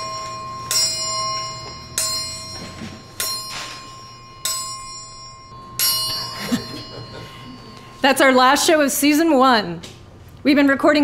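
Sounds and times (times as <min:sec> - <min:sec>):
chimes striking: 0:00.0 - 0:09.6.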